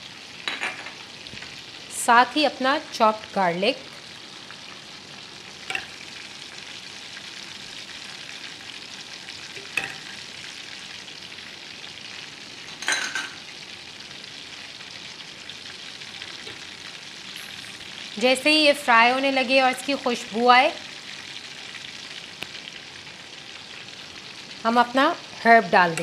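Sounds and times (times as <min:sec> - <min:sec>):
deep-frying hiss: 0:00.0 - 0:26.0.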